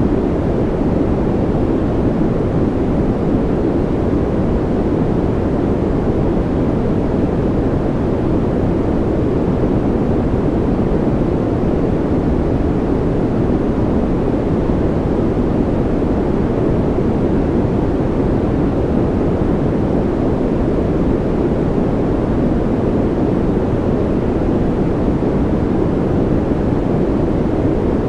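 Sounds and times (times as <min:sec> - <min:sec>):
muffled white noise: 0:00.0 - 0:28.0.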